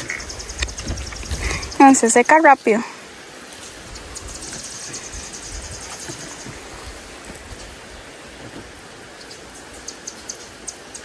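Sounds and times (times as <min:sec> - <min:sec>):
sprayer hissing: 0:00.0 - 0:11.0.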